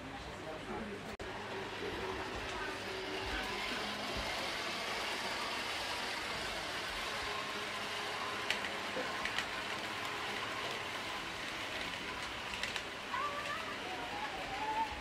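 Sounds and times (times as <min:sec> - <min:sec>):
model trains rolling hum: 0:00.1 - 0:15.0.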